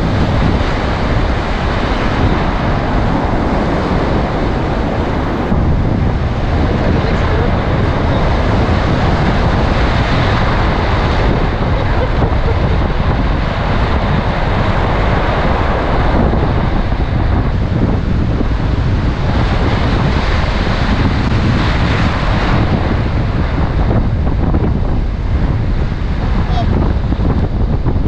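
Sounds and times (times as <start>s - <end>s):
ocean surf: 0.0s - 28.0s
wind on microphone: 0.0s - 28.0s.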